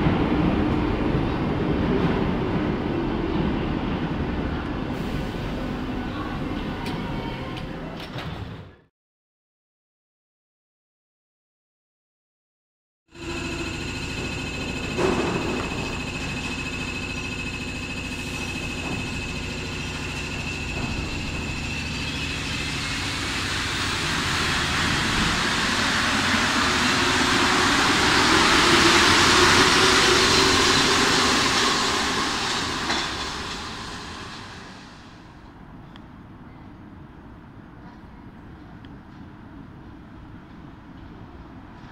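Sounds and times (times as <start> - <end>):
metro train accelerating: 0.0 - 8.9, 13.1 - 41.9.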